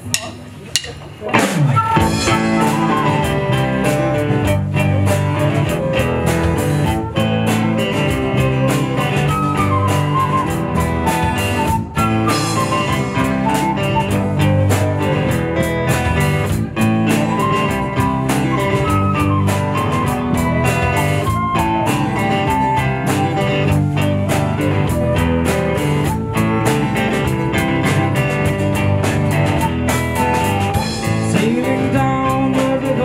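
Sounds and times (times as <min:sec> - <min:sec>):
acoustic and electric guitars: 0:00.0 - 0:33.0
drum kit beat: 0:00.0 - 0:33.0
flute melody: 0:01.6 - 0:33.0.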